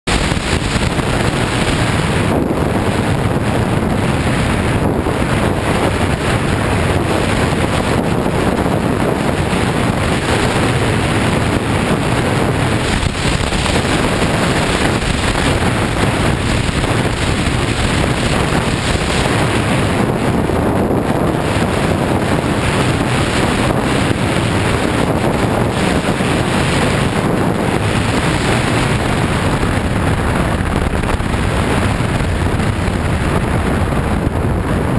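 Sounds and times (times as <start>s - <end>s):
motorcycle engine running: 0.0s - 34.9s
wind rush on microphone: 0.0s - 34.9s.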